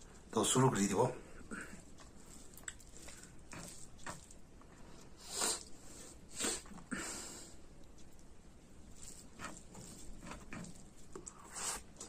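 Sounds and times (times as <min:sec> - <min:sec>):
fingers squishing food: 0:01.6 - 0:06.9, 0:07.5 - 0:12.0.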